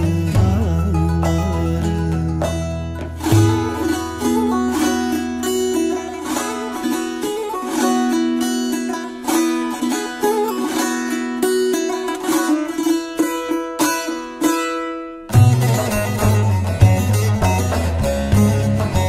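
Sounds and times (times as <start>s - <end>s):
plucked string instrument melody: 0.0s - 19.0s.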